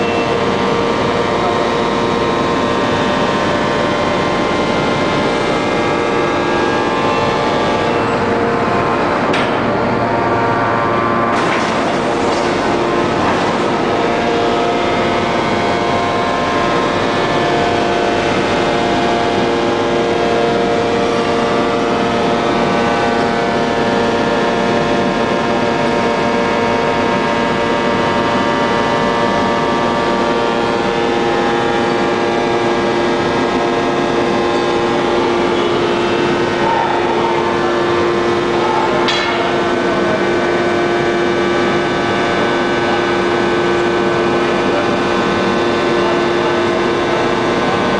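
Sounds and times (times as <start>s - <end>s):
forging press machine drone: 0.0s - 47.9s.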